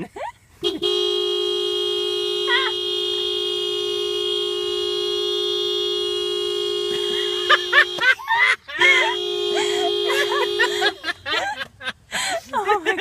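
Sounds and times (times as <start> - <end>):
car horn long blast: 0.6 - 11.4.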